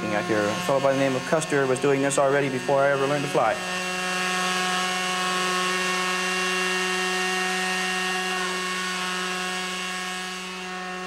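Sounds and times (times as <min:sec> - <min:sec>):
small model aircraft engine: 0:00.0 - 0:11.0.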